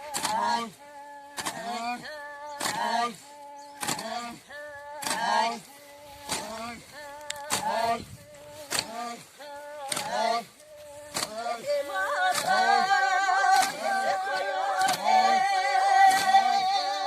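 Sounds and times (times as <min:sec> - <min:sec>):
voices singing a chant: 0:00.0 - 0:17.0.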